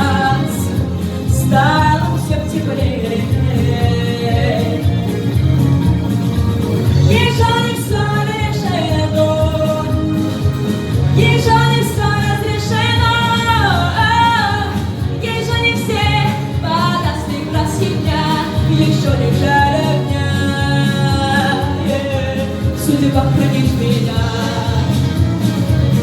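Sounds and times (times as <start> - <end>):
girl singing a pop ballad: 0.0 - 5.3, 7.0 - 25.3
instrumental accompaniment: 0.0 - 26.0.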